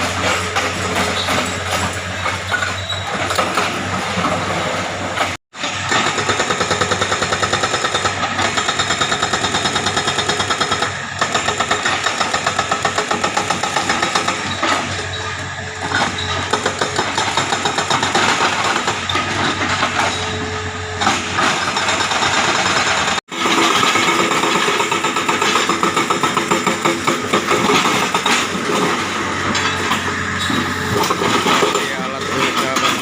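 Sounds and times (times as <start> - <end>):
excavator engine running: 0.0 - 33.0
hydraulic rock breaker hammering: 0.0 - 33.0.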